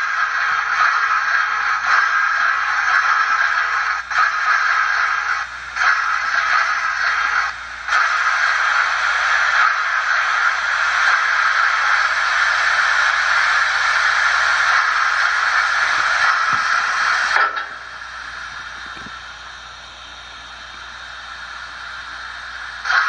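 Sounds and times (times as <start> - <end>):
model locomotive steam hiss: 0.0 - 23.0.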